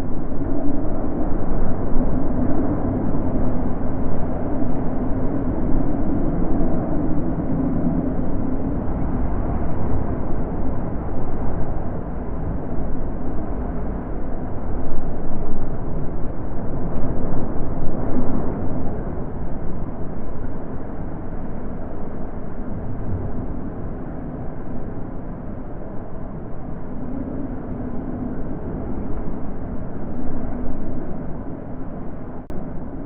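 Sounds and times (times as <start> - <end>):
wind blowing in gusts: 0.0 - 33.0.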